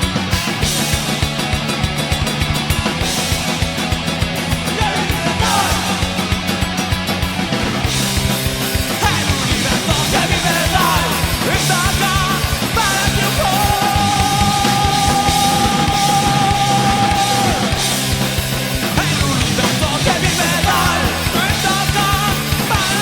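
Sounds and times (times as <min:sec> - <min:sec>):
heavy metal song: 0:00.0 - 0:23.0.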